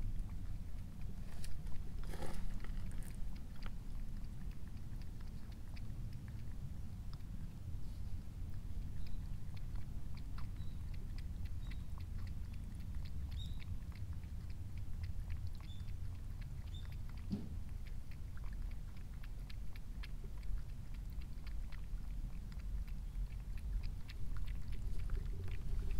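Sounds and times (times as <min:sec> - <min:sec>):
cat lapping water: 0:00.0 - 0:25.9
low steady rumble: 0:00.0 - 0:25.9.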